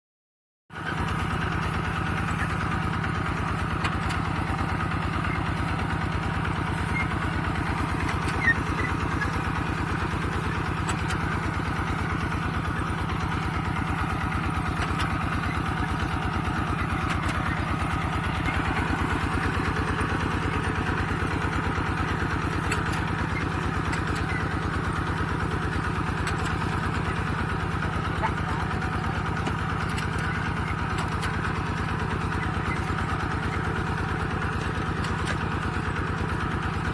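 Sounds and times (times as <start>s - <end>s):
diesel engine chugging: 0.7s - 36.9s.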